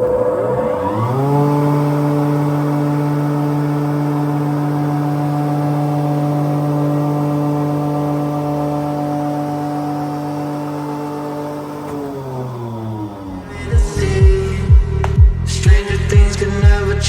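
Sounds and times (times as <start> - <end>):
spindle moulder motor whining: 0.0 - 15.6.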